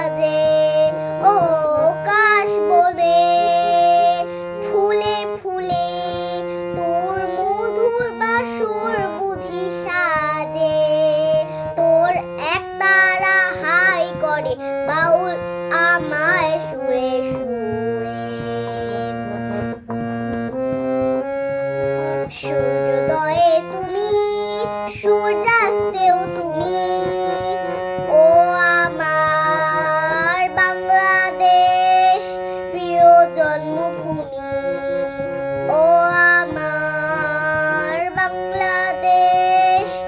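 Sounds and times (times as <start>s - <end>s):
girl singing: 0.0s - 40.0s
held keyboard notes: 0.0s - 40.0s.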